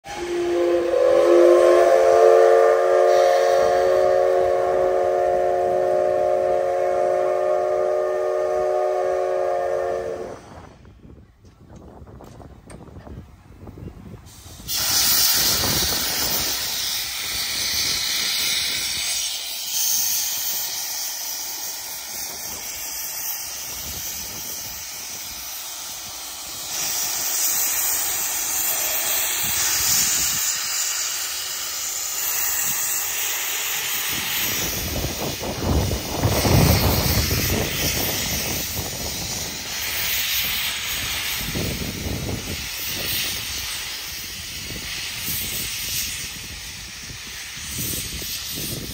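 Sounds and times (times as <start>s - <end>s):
steam locomotive hissing steam: 0.0s - 48.9s.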